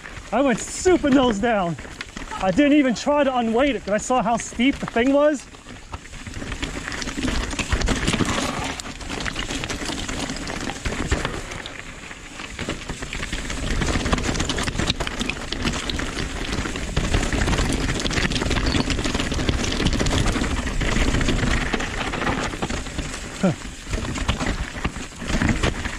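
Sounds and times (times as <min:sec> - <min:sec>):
bike rattling: 0:00.0 - 0:25.9
bike tyres rolling over rocks: 0:00.0 - 0:25.9.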